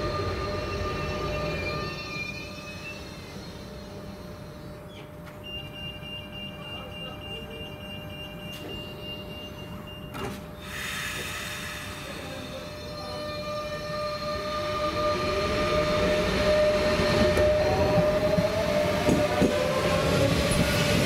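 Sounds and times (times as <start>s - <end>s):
low train rumble: 0.0s - 21.0s.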